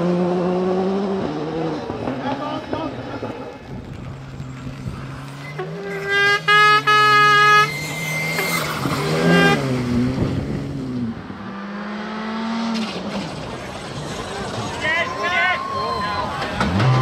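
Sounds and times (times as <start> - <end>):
rally car engine at high revs: 0.0 - 3.5, 4.6 - 14.6, 16.5 - 17.0
car approaching: 0.0 - 17.0.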